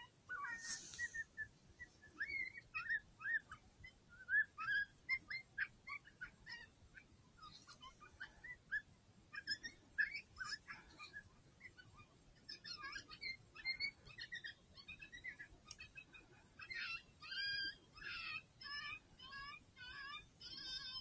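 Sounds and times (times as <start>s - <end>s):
coyote yips and whimpers: 0.0s - 21.0s.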